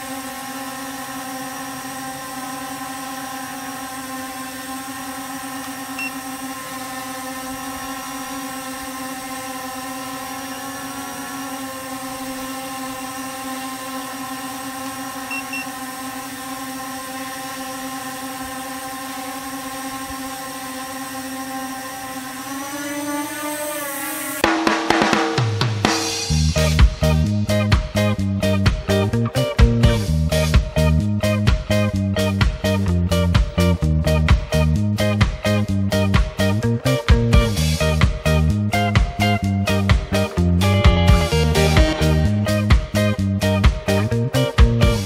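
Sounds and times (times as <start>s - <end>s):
drone buzzing whine: 0.0s - 45.0s.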